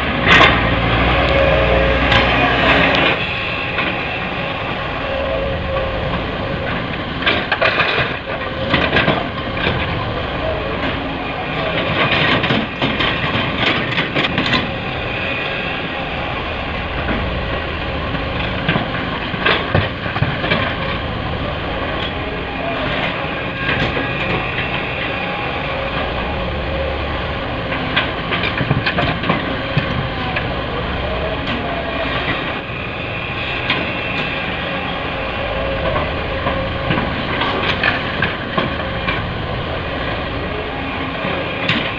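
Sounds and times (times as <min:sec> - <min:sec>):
diesel machinery running: 0:00.0 - 0:41.9.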